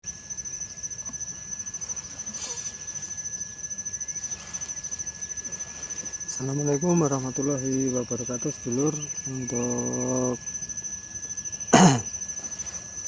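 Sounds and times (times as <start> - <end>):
insects trilling: 0.0 - 13.0
low steady tone: 0.4 - 13.0.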